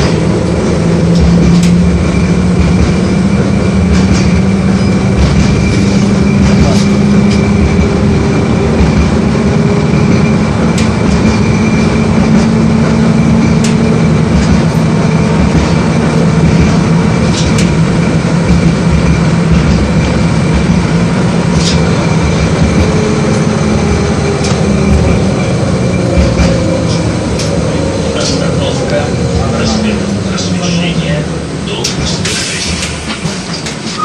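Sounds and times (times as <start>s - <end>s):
constant whine: 0.0s - 34.0s
tram wheels rumbling: 0.0s - 34.0s.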